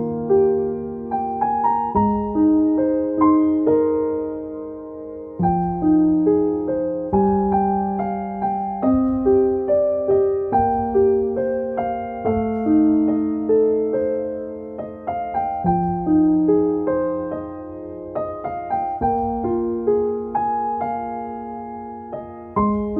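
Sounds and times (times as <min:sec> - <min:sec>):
gentle piano music: 0:00.0 - 0:22.9.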